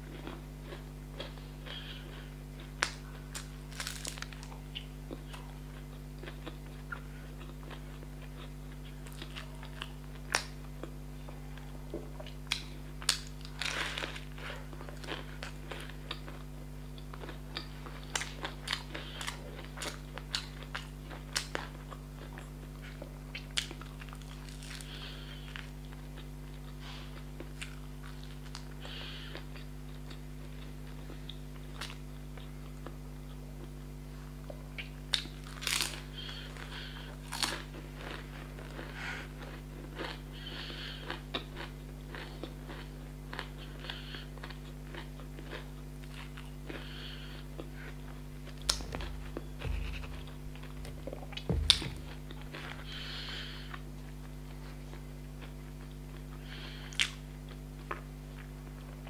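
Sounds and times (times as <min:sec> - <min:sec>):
chewing crunchy pastry: 0:00.0 - 0:59.0.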